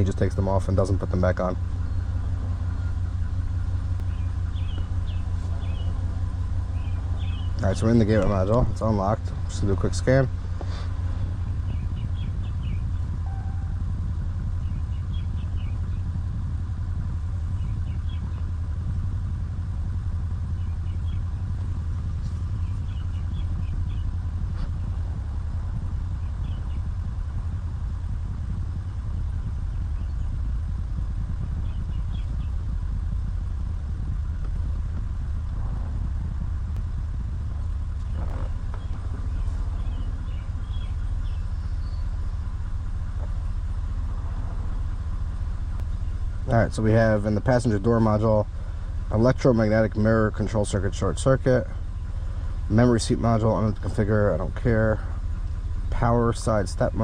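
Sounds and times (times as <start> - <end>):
pickup engine idling: 0.0 - 57.0.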